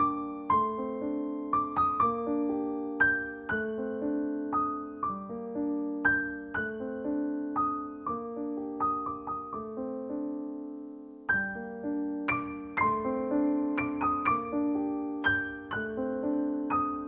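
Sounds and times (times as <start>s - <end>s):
gentle solo piano melody: 0.0s - 17.0s.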